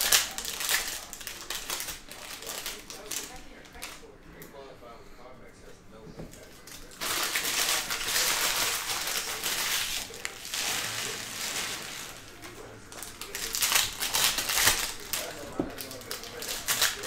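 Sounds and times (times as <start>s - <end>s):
foil wrappers crinkling: 0.0s - 4.1s, 6.3s - 17.0s.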